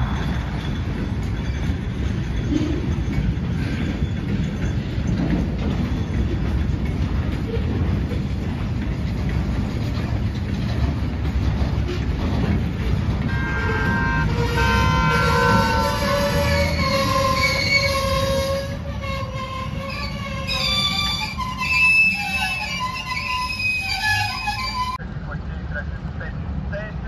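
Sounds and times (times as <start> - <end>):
train wheels squealing: 0.0 - 8.3, 9.9 - 25.0
train wheels rumbling on rail: 0.0 - 27.0.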